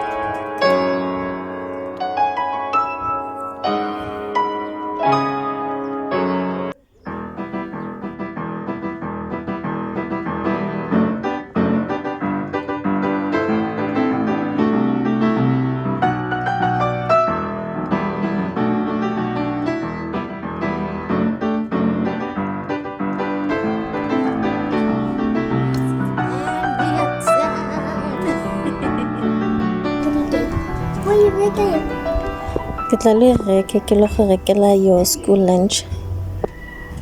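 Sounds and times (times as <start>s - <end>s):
piano background music: 0.0s - 37.0s.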